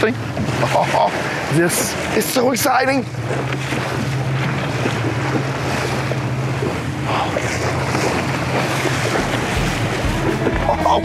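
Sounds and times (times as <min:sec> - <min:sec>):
boat engine humming: 0:00.0 - 0:11.0
water rushing past: 0:00.0 - 0:11.0
wind buffeting microphone: 0:00.1 - 0:11.0.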